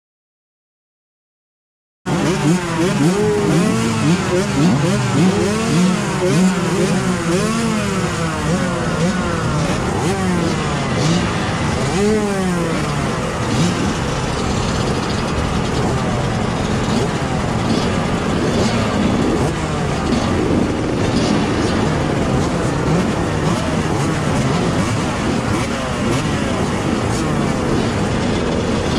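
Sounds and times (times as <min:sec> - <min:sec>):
motocross bikes revving: 0:02.1 - 0:28.9.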